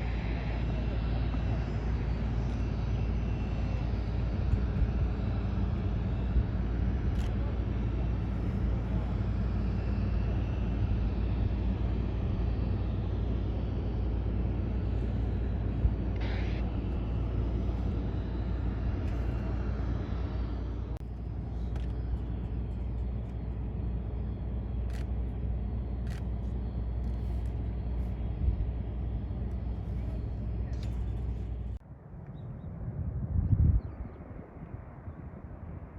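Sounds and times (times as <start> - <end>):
faint engine whine: 0.0 - 35.9
jet engines rumbling: 0.0 - 35.9.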